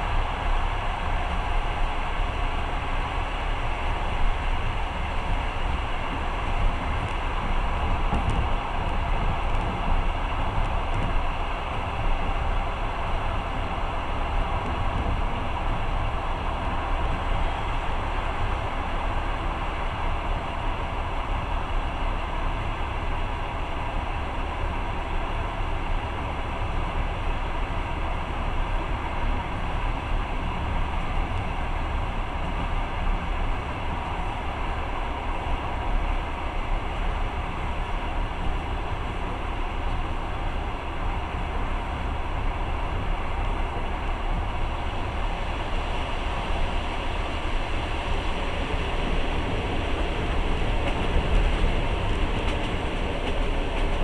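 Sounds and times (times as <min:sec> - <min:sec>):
moving train rumbling: 0:00.0 - 0:54.0.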